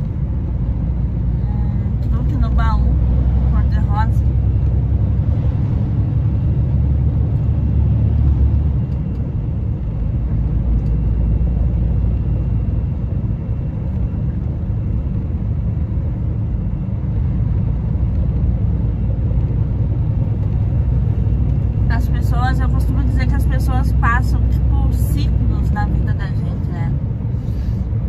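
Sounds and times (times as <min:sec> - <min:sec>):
diesel truck engine rumble: 0:00.0 - 0:28.0.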